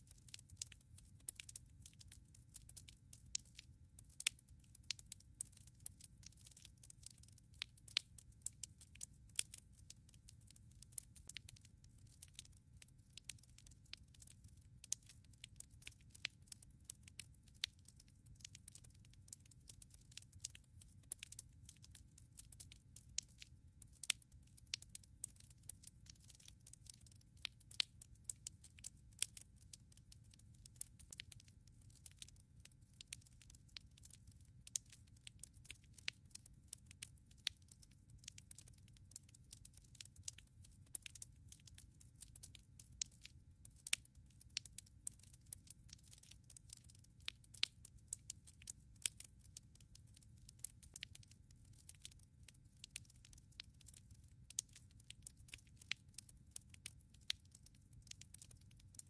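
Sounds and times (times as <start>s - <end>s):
wood fire crackling: 0.2s - 52.2s, 52.8s - 57.4s, 58.0s - 59.0s.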